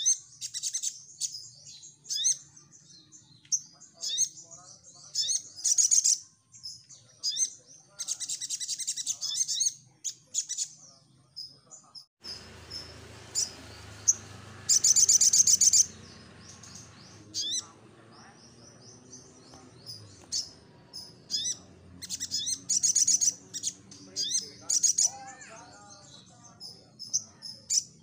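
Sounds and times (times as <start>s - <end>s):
bird chirping and trilling: 0.0s - 28.0s.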